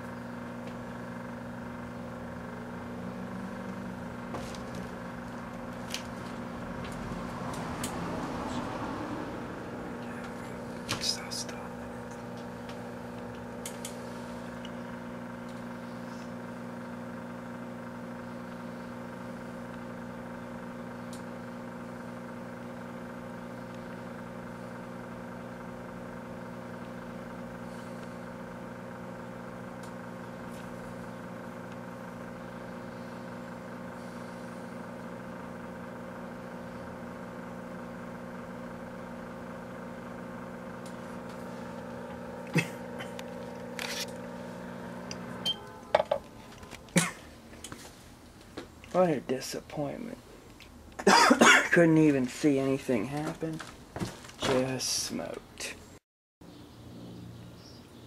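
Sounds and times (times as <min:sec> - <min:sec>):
microwave oven humming: 0:00.0 - 0:58.0.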